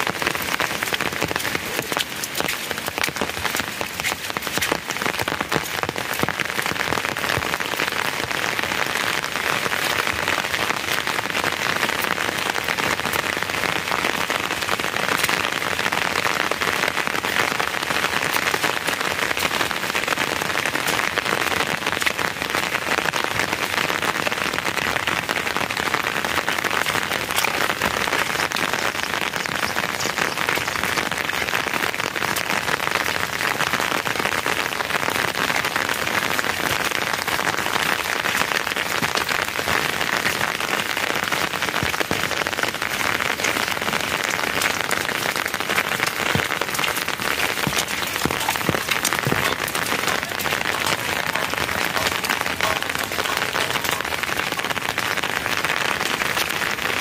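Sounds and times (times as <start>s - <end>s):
rain-like patter: 0.0s - 57.0s.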